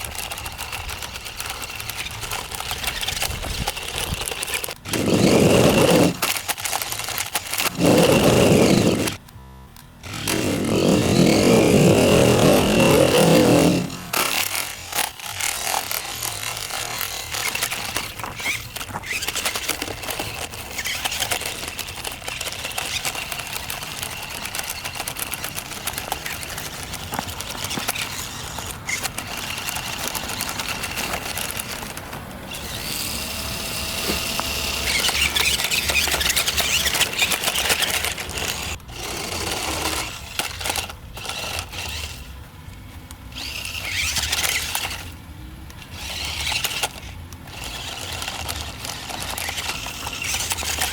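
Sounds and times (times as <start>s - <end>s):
wheels scraping over ground: 0.0s - 9.3s, 10.0s - 50.9s
toy car electric motors whining: 0.0s - 50.9s.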